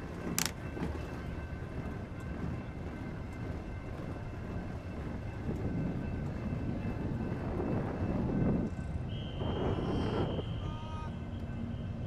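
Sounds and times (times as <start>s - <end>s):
vehicle rolling noise: 0.0s - 10.6s
wind on microphone: 0.0s - 10.7s.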